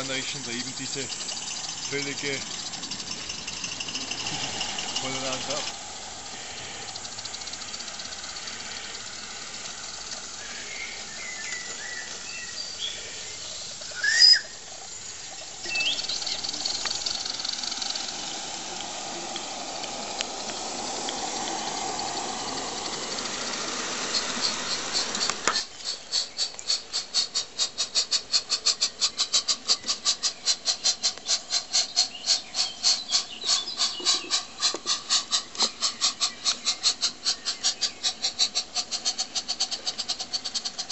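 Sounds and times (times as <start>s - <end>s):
model steam locomotive hissing: 0.0s - 40.9s
steam locomotive exhaust chuffing: 0.0s - 40.9s.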